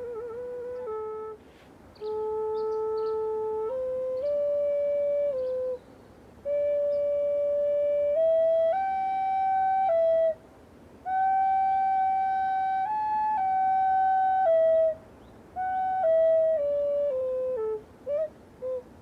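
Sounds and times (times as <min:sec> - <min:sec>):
flute playing slow melody: 0:00.0 - 0:19.0.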